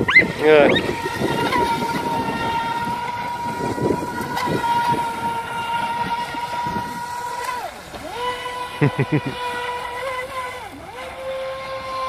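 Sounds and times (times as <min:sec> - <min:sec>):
high-pitched electric motor whine: 0:00.0 - 0:12.0.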